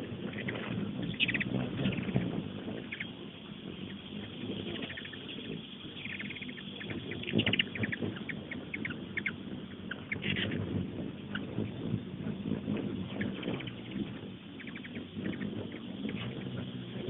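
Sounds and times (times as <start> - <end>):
hummingbird chip and twitter calls: 0.0 - 17.0.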